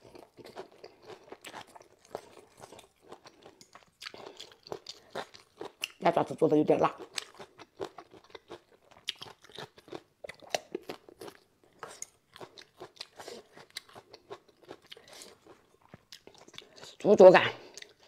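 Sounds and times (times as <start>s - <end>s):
person chewing crunchy food: 0.0s - 6.0s, 6.9s - 17.0s, 17.6s - 18.0s.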